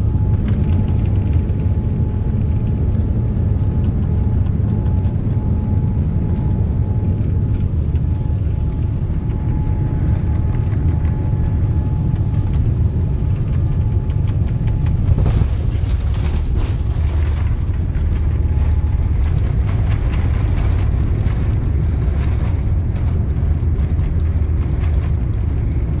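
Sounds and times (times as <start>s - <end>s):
airplane cabin low rumble: 0.0s - 26.0s.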